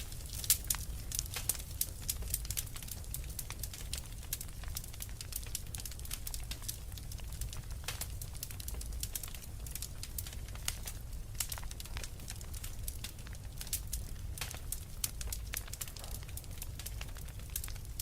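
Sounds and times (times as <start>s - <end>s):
fire popping and snapping: 0.0s - 18.0s
low rumble of flame: 0.0s - 18.0s.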